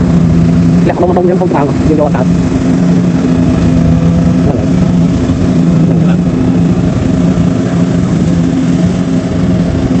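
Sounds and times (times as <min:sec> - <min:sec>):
combine harvester engine hum: 0:00.0 - 0:10.0.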